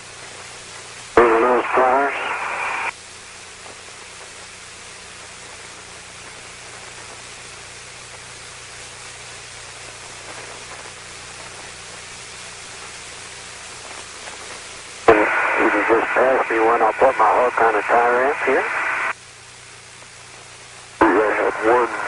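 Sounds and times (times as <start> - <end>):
radio static hiss: 0.0 - 22.0
low steady hum: 0.1 - 22.0.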